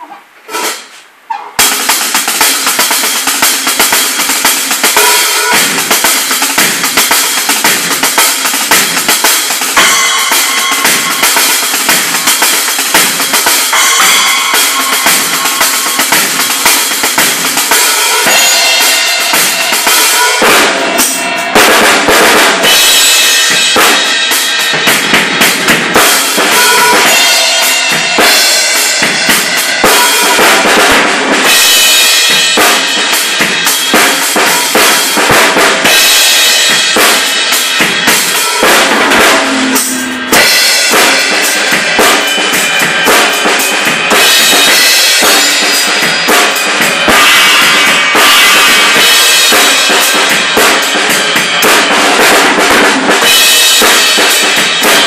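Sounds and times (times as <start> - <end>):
cymbal wash: 1.6 - 55.0
fast drum solo: 1.6 - 55.0.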